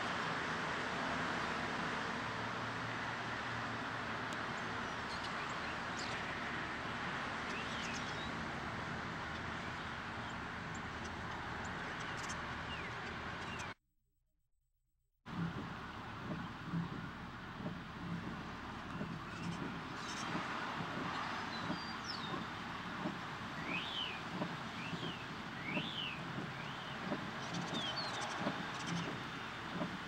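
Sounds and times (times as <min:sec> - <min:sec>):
street traffic hiss: 0:00.0 - 0:13.8, 0:15.3 - 0:30.0.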